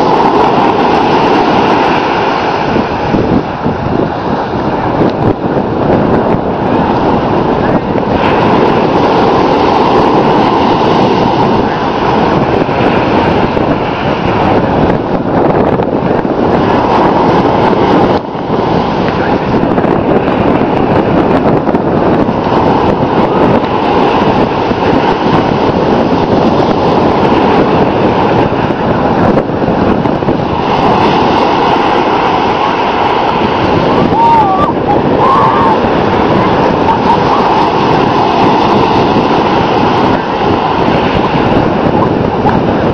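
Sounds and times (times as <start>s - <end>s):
ocean surf: 0.0s - 42.9s
wind buffeting the microphone: 0.0s - 42.9s.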